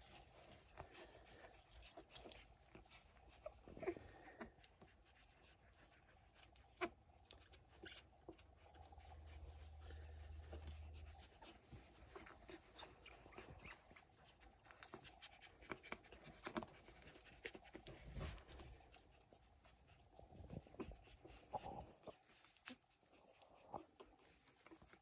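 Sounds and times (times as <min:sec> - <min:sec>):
hand rustling over fur: 0:00.0 - 0:23.0
puppy grunts and snuffles: 0:00.0 - 0:25.0.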